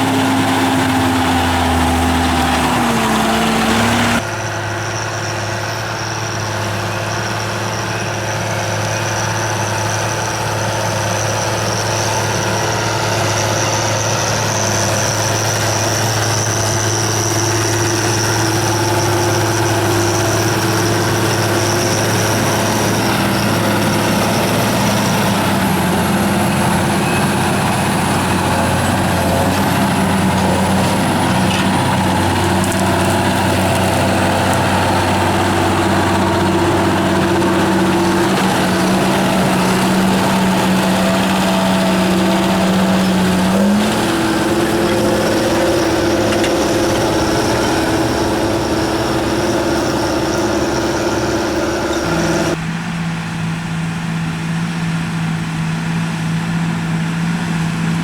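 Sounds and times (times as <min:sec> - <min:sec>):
high engine whine: 0:00.0 - 0:58.0
tractor diesel engines droning: 0:00.0 - 0:58.0.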